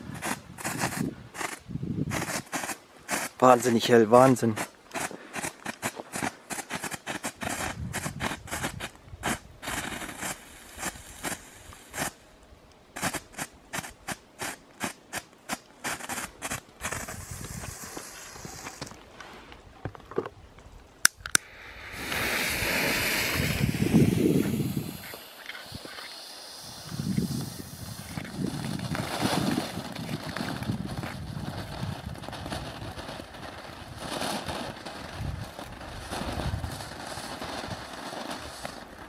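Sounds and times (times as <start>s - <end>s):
firework spraying sparks hissing: 0.0s - 12.2s, 12.9s - 19.0s, 21.1s - 39.0s
sharp firework cracks: 0.0s - 12.2s, 13.0s - 19.0s, 21.0s - 39.0s
fireworks crackling pops: 0.0s - 20.3s, 21.0s - 39.0s.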